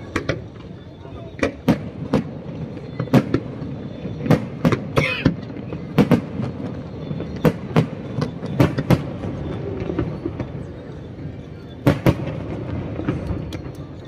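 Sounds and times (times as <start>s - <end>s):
continuous rumble of fireworks: 0.0s - 14.0s.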